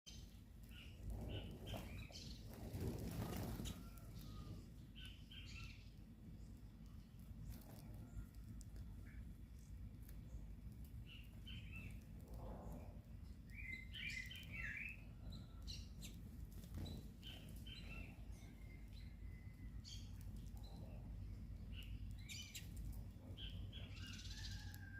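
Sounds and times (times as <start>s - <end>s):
faint low rumble: 0.1s - 24.9s
small birds chirping: 0.1s - 24.9s.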